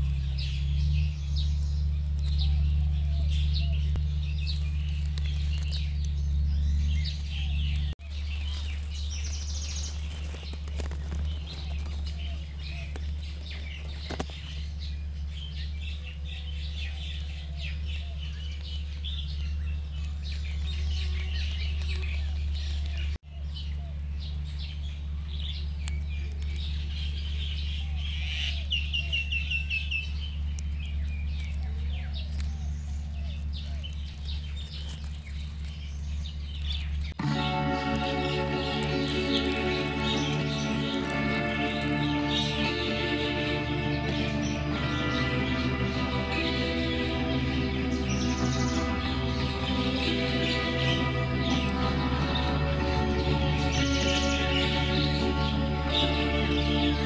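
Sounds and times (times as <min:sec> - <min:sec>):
low hum: 0:00.0 - 0:29.1, 0:30.0 - 0:57.0
bird trill: 0:00.0 - 0:57.0
wild birds chirping: 0:00.0 - 0:57.0.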